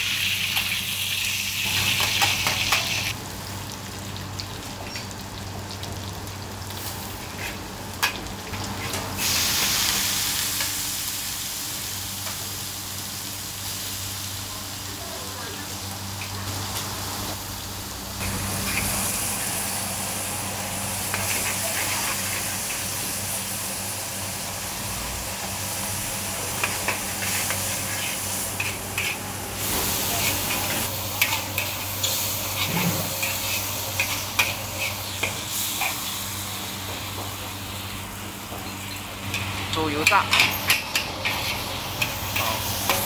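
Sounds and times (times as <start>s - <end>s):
noodles sizzling in a wok: 0.0s - 43.0s.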